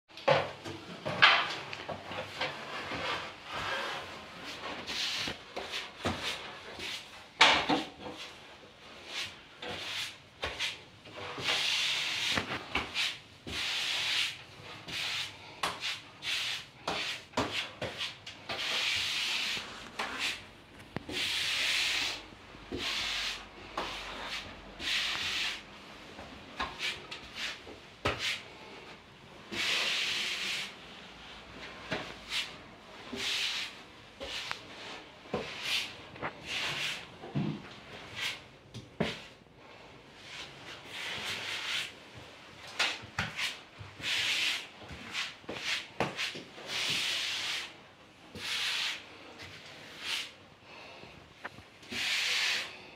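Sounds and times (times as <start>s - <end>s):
grout float scraping across tiles: 1.0s - 52.9s.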